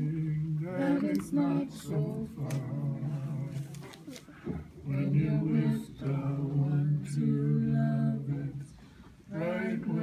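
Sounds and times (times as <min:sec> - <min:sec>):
person singing in a low voice: 0:00.0 - 0:10.0.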